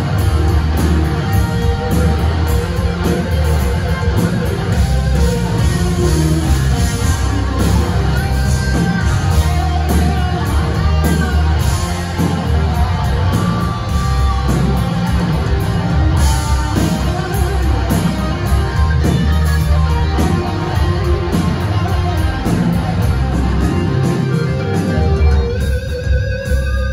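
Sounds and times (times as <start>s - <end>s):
bass guitar: 0.0s - 26.9s
drums: 0.0s - 26.9s
electric guitars: 0.0s - 26.9s.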